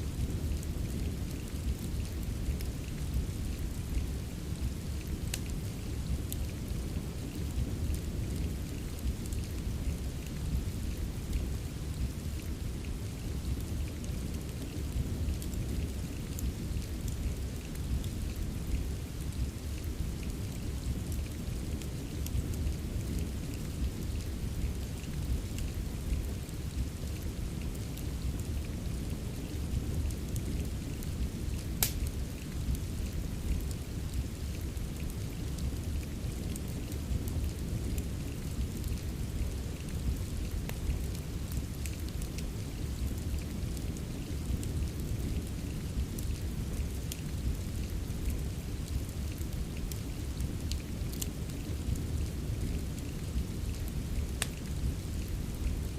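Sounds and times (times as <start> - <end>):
steady rain: 0.0 - 55.9
wood fire crackling and popping: 0.0 - 55.9.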